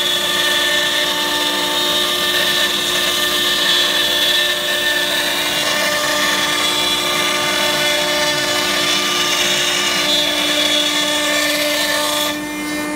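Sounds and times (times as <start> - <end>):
router spindle whining: 0.0 - 12.9.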